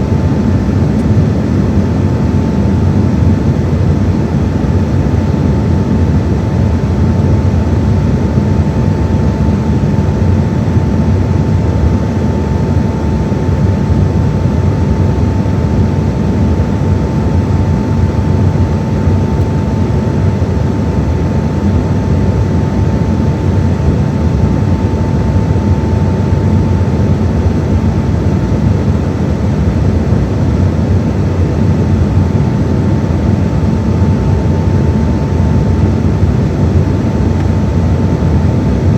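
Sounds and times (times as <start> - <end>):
jet engine and airflow rush: 0.0 - 38.9
thin steady whine: 0.0 - 38.9.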